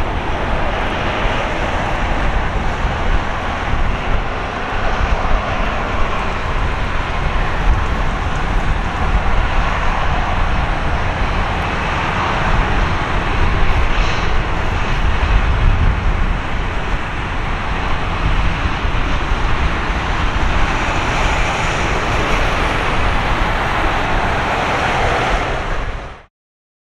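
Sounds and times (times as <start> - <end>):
jet engines rumbling: 0.0 - 26.3.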